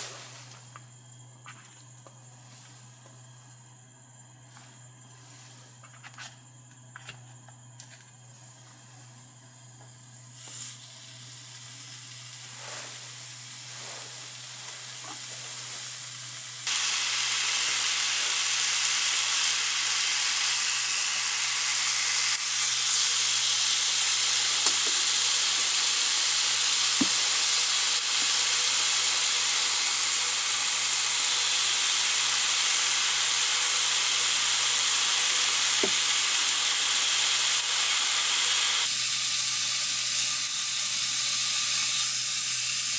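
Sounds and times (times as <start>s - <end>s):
food sizzling in a pan: 8.5s - 42.9s.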